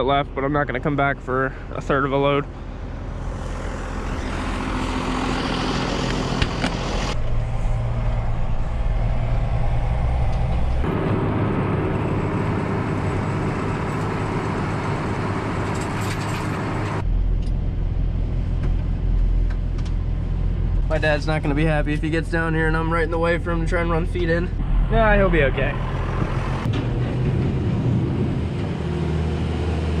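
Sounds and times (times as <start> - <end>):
tractor engine running: 0.6 - 30.0.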